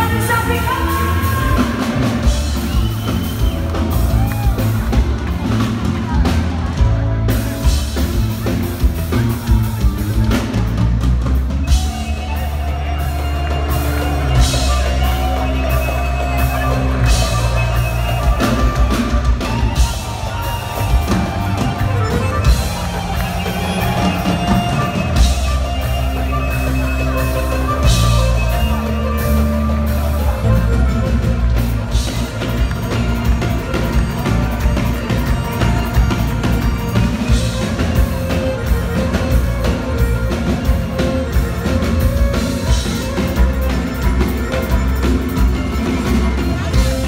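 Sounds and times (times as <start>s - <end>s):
live band dance music: 0.0s - 47.0s
violin: 0.0s - 47.0s.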